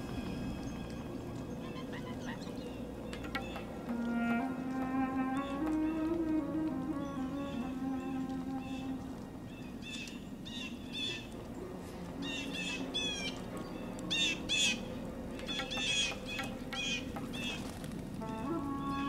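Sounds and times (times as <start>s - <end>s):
faint background music: 0.0s - 19.0s
blue jays calling: 0.6s - 9.0s, 9.7s - 17.8s.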